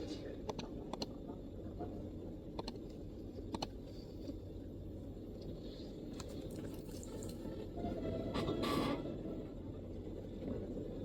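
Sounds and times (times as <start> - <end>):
low room rumble: 0.0 - 11.0.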